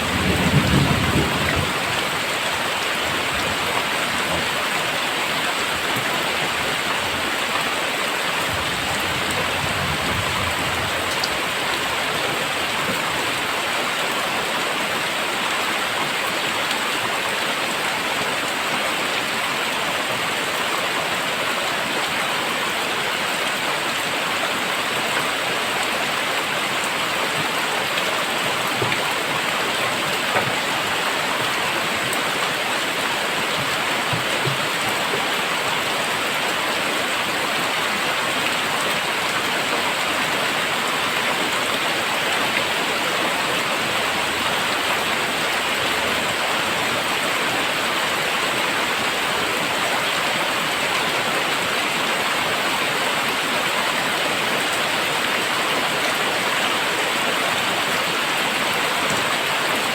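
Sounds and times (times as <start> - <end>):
very heavy rain: 0.0 - 59.9.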